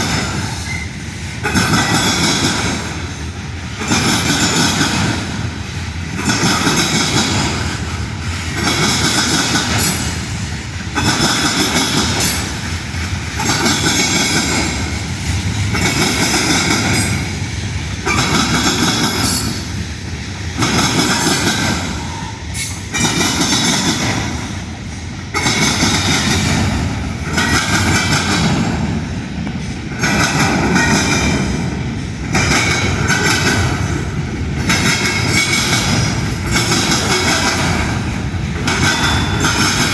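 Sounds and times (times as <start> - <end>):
train cars rolling on track: 0.0 - 39.9.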